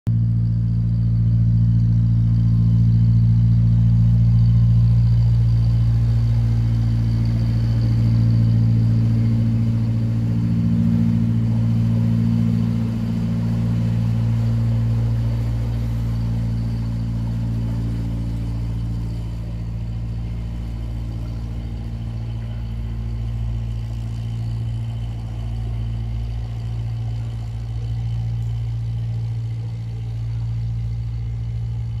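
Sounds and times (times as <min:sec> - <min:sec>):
boat diesel engine chugging: 0:00.1 - 0:32.0.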